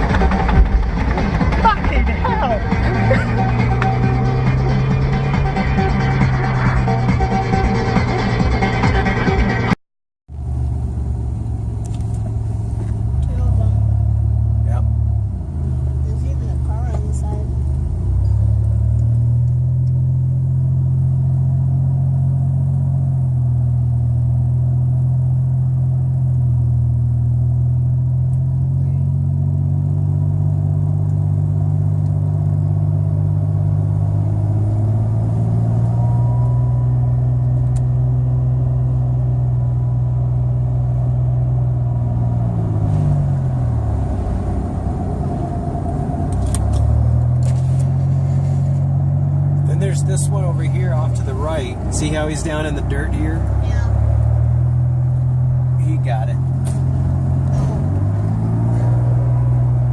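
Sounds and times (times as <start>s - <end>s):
road vehicle engine drone: 0.0s - 59.9s.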